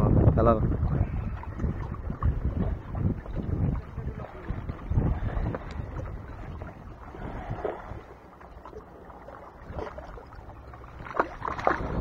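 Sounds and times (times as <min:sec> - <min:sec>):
wind on microphone: 0:00.0 - 0:08.8, 0:09.4 - 0:12.0
waves washing against rocks: 0:00.6 - 0:08.2, 0:09.6 - 0:12.0.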